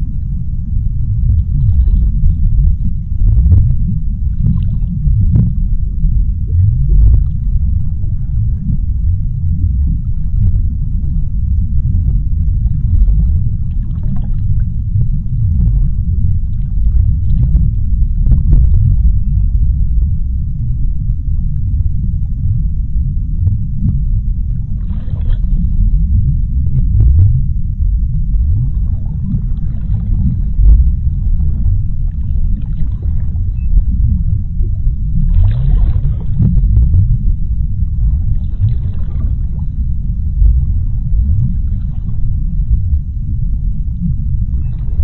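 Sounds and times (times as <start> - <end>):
low underwater rumble: 0.0 - 45.0.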